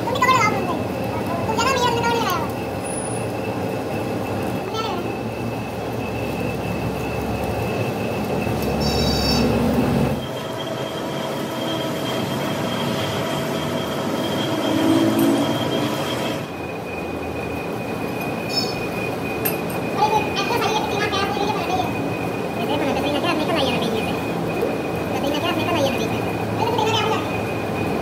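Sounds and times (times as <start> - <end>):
high cutting tool whine: 0.0 - 28.0
metal lathe cutting steel: 5.2 - 28.0.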